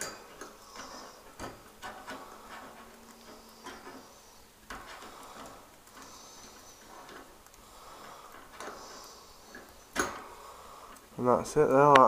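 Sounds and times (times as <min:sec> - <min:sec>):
faint scattered clicks: 0:00.0 - 0:12.0.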